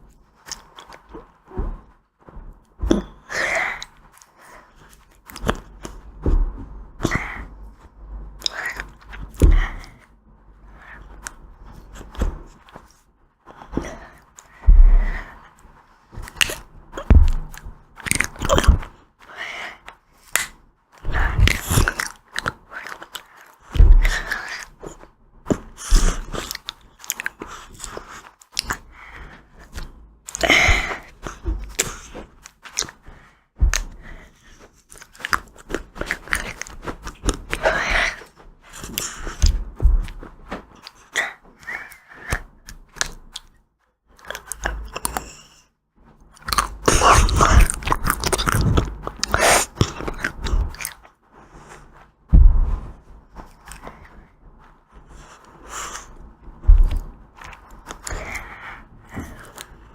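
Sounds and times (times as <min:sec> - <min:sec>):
crunchy chewing of ice cream: 0:00.3 - 0:01.5, 0:07.0 - 0:12.7, 0:13.6 - 0:43.5, 0:44.2 - 0:45.7, 0:46.3 - 0:52.1, 0:53.4 - 0:54.4, 0:55.1 - 0:59.9.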